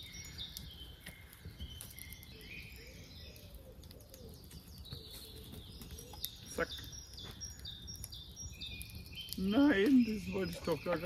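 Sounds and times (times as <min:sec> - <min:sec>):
faint birds chirping and trilling: 0:00.0 - 0:11.0.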